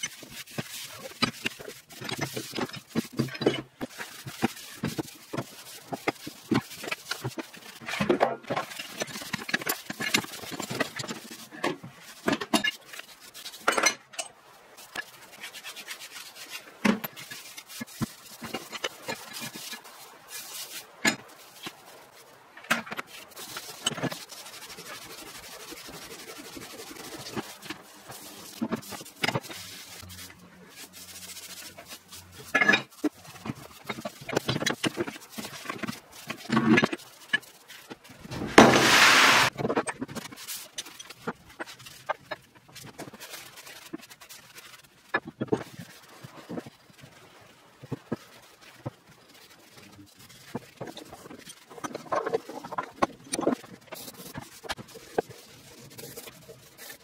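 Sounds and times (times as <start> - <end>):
scrubbing and scraping in water: 0.0 - 57.0.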